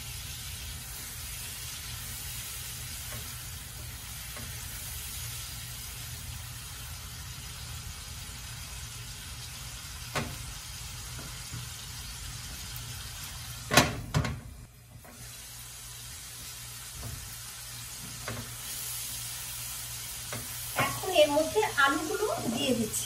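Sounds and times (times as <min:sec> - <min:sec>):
paste sizzling in frying pan: 0:00.0 - 0:13.8, 0:14.6 - 0:23.0.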